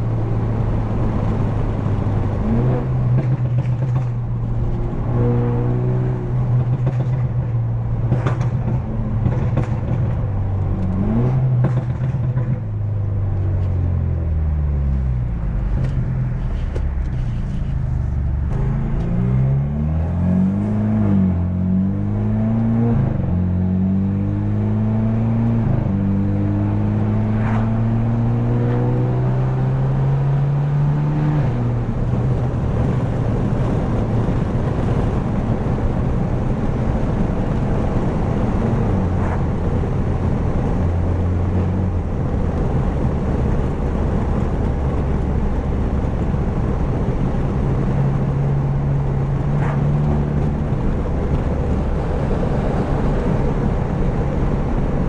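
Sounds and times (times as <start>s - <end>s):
exhaust cracks: 0.0s - 21.4s, 32.0s - 55.0s
car engine accelerating with upshifts: 0.0s - 55.0s
road noise: 0.0s - 55.0s.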